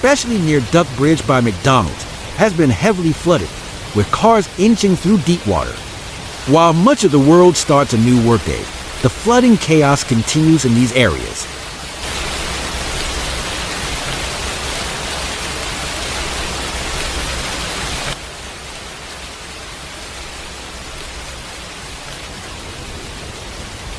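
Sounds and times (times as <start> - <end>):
steady hiss of water: 0.0 - 23.9.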